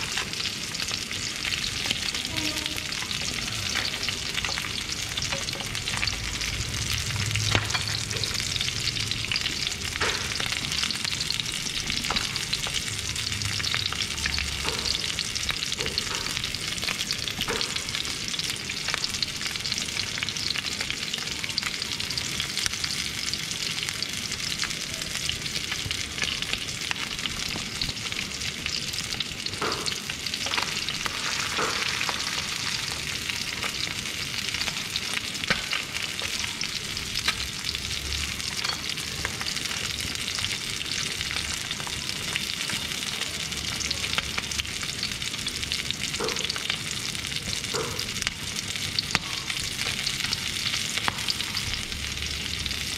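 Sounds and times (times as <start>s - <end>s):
fish frying in hot oil: 0.0s - 52.9s.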